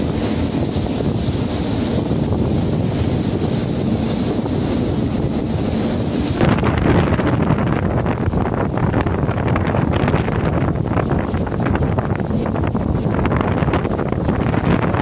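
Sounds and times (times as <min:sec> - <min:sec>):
rough sea rushing: 0:00.0 - 0:15.0
wind blowing over microphone: 0:00.0 - 0:15.0.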